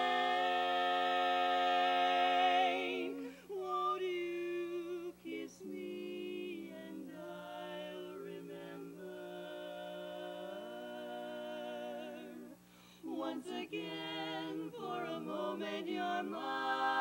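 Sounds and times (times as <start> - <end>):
women singing close harmony: 0.0 - 17.0.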